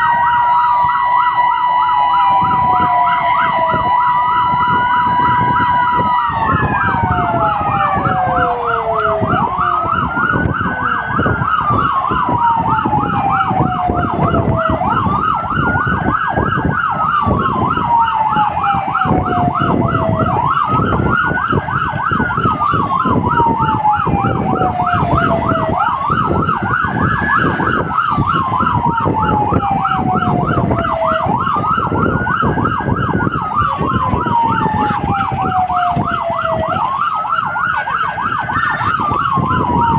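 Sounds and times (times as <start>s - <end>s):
engine and road noise: 0.0s - 39.9s
siren wail: 0.0s - 39.9s
siren yelp warbling: 0.0s - 39.9s
steady siren tone: 0.0s - 39.9s.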